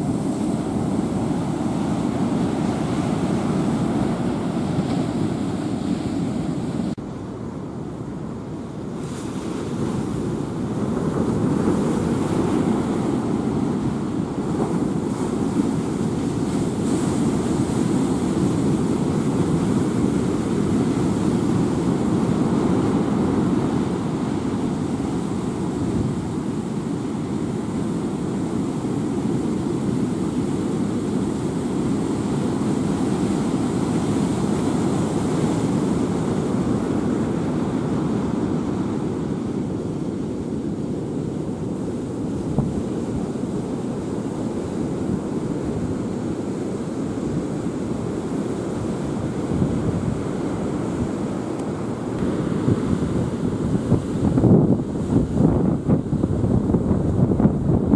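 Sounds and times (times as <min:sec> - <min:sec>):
storm wind buffeting microphone: 0:00.0 - 0:57.9.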